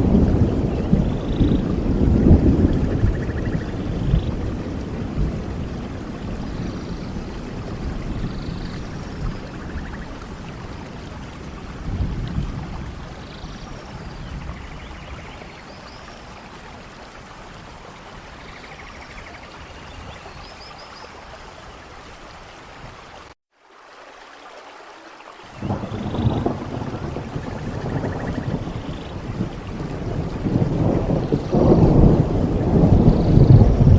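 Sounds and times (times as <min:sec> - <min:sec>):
thunder rumbling: 0:00.0 - 0:20.2, 0:25.6 - 0:33.9
heavy rain: 0:00.0 - 0:33.9.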